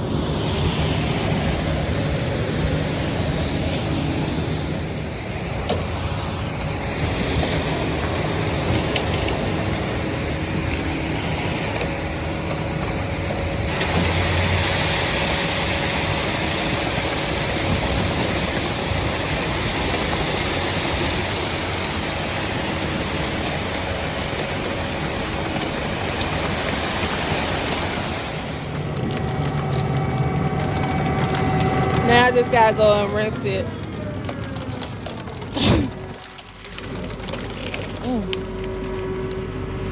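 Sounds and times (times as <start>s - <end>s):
concrete discharging from drum: 0.0s - 39.0s
mixer truck engine running: 0.0s - 39.9s.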